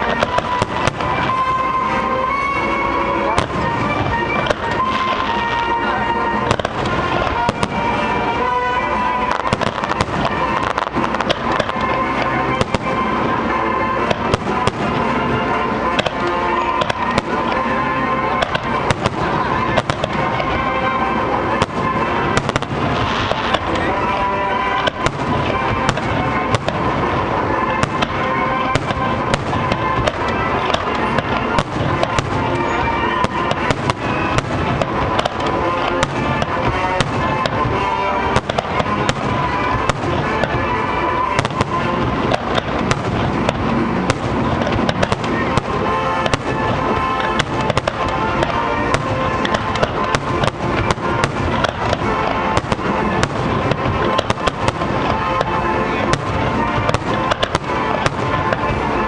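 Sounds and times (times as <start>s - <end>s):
fireworks launching and bursting: 0.0s - 59.0s
music playing: 0.0s - 59.0s.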